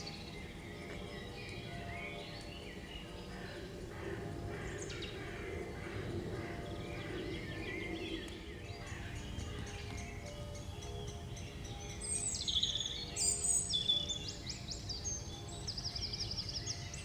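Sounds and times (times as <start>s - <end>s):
low background noise: 0.0s - 17.0s
songbirds chirping and warbling: 0.0s - 17.0s.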